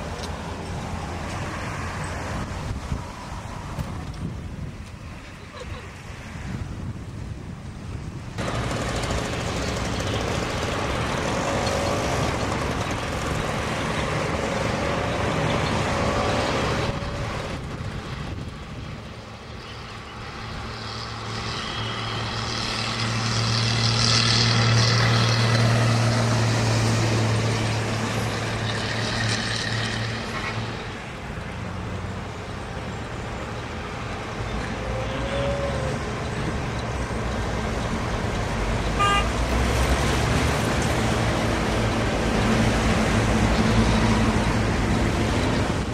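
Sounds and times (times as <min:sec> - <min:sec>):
road traffic: 0:00.0 - 0:45.9
tram running on track: 0:00.0 - 0:45.9.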